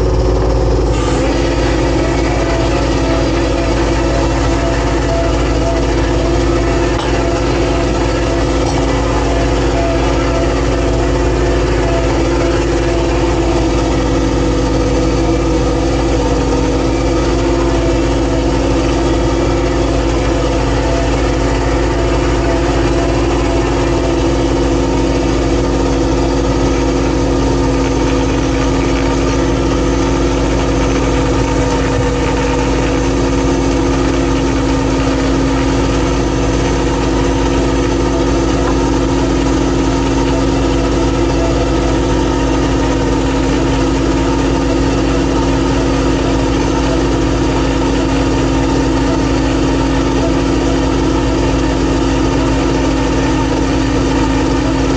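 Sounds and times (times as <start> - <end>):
boat engine running steadily: 0.0 - 54.9.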